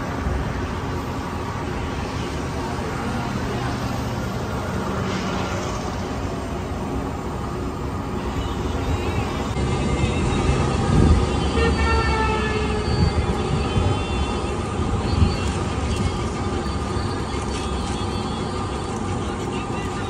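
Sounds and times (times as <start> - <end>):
roadside traffic rumble: 0.0 - 20.0.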